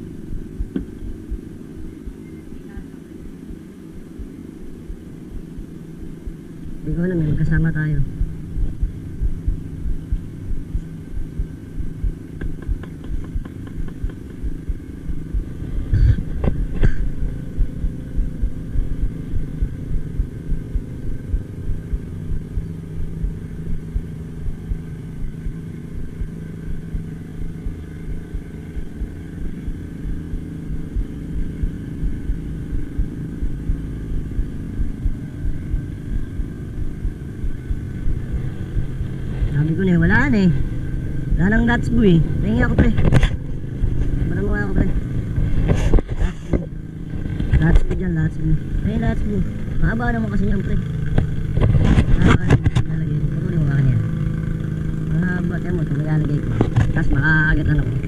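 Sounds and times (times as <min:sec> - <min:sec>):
engine running with pulsing hum: 0:00.0 - 0:58.0.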